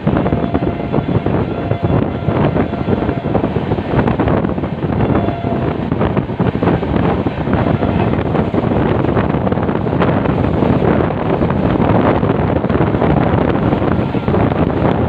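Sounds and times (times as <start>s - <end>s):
train rumbling on track: 0.0s - 15.0s
wind buffeting microphone: 0.0s - 15.0s.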